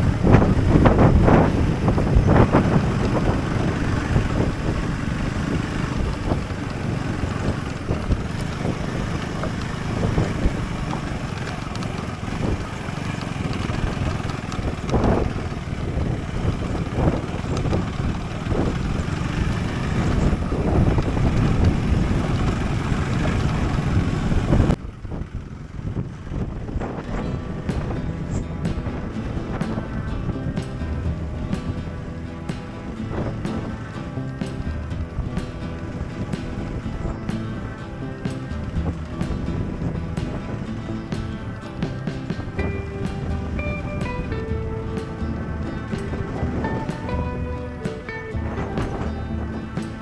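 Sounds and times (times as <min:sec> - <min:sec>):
motorcycle engine running: 0:00.0 - 0:50.0
wind noise on microphone: 0:00.0 - 0:50.0.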